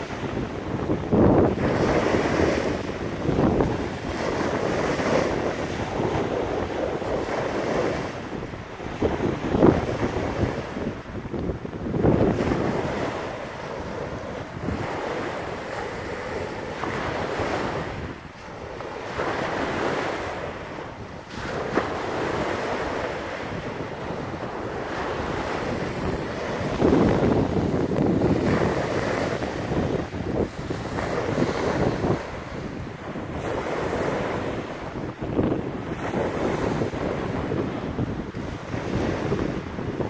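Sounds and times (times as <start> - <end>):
waves washing up beach: 0.0 - 40.0
wind buffeting microphone: 0.0 - 40.0.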